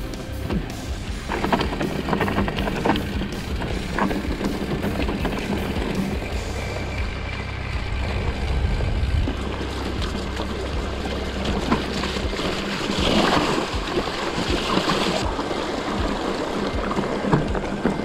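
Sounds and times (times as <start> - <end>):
bike clicks and rattles: 0.0 - 18.0
tyre and wind noise: 0.0 - 18.0.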